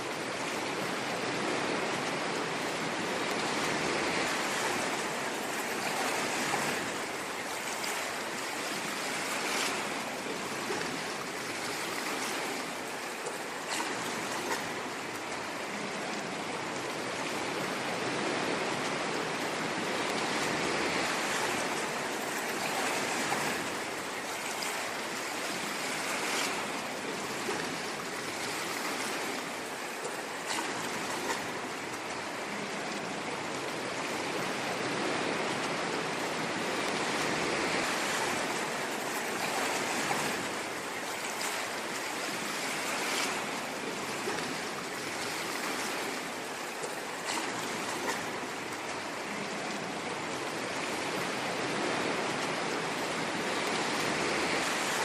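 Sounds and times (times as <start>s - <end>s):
ocean waves breaking: 0.0s - 55.0s
water splashes: 0.0s - 55.0s.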